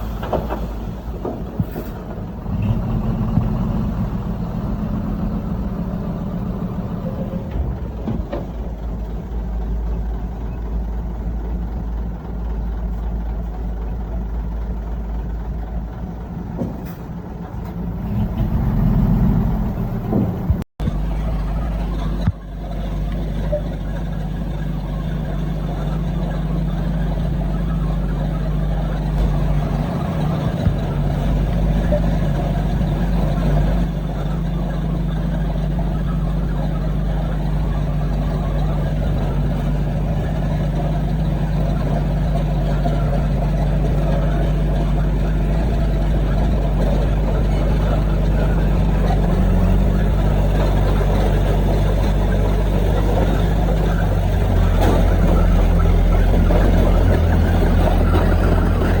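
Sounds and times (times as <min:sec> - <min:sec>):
diesel earthmoving machinery running: 0:00.0 - 0:59.0.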